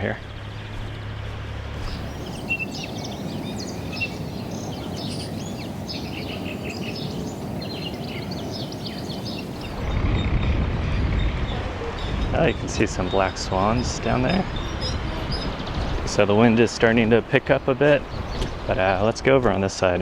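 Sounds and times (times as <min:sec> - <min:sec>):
small birds chirping: 0:00.0 - 0:19.0
wind rumble on microphone: 0:00.0 - 0:20.0.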